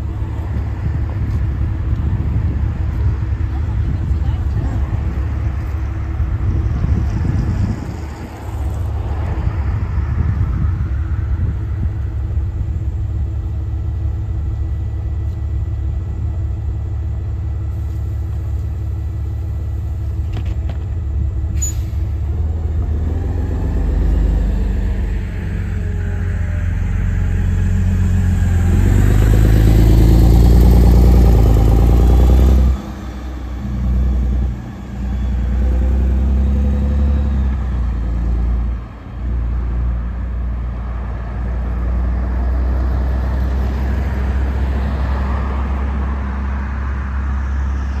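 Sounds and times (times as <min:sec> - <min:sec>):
bus diesel engine accelerating: 0:00.0 - 0:48.0
road traffic: 0:00.0 - 0:48.0.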